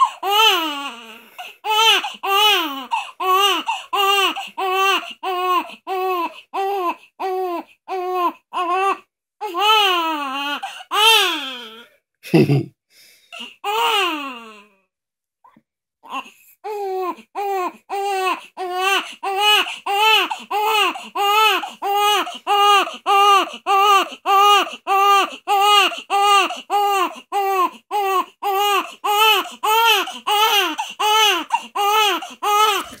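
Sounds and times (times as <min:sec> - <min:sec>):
newborn baby crying: 0:00.0 - 0:11.9, 0:13.4 - 0:14.8, 0:16.0 - 0:33.0.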